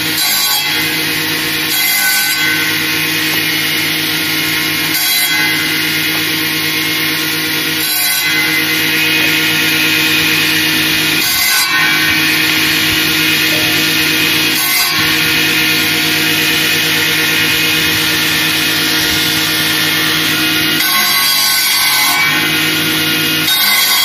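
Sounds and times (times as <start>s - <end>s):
circular saw motor hum: 0.0s - 24.0s
saw blade cutting branches: 0.0s - 24.0s.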